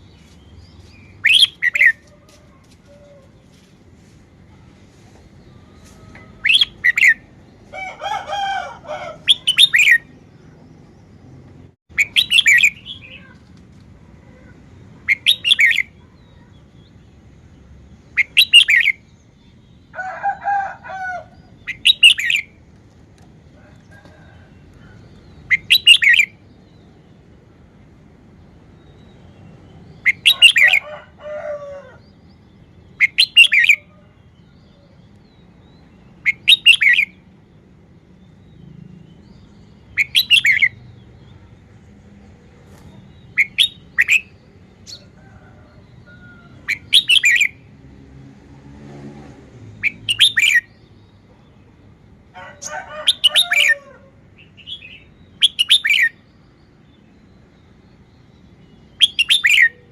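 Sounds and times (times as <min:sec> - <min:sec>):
bird singing bright phrases: 0:00.0 - 0:03.7, 0:04.4 - 0:22.8, 0:23.4 - 0:31.0, 0:31.8 - 0:47.8, 0:49.7 - 0:59.9.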